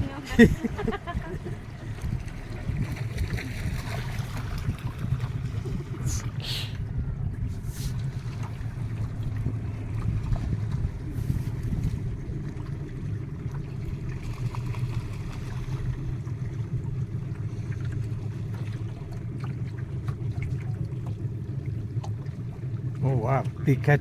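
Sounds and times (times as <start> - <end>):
light water noise: 0.0 - 24.0
motorboat engine humming: 0.0 - 24.0.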